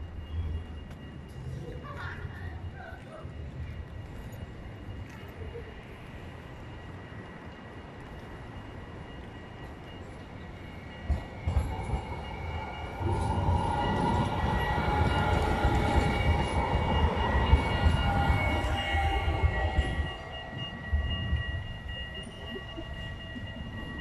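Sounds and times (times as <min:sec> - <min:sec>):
tram wheels rumbling on rails: 0:00.0 - 0:24.0.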